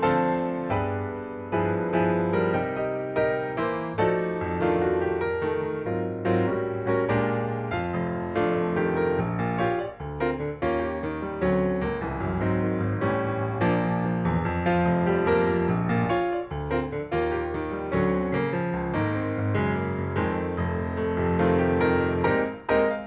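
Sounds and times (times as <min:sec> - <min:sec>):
background piano music: 0:00.0 - 0:23.0.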